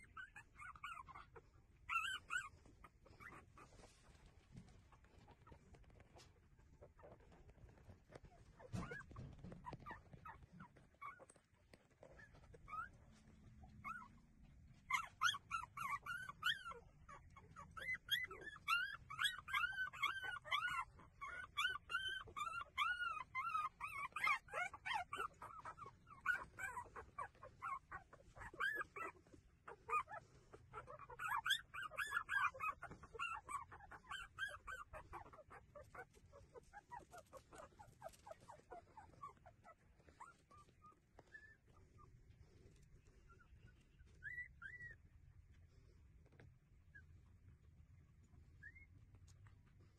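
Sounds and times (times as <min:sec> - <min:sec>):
puppies squeaking and whimpering: 0:00.0 - 0:45.6, 0:48.4 - 0:49.9.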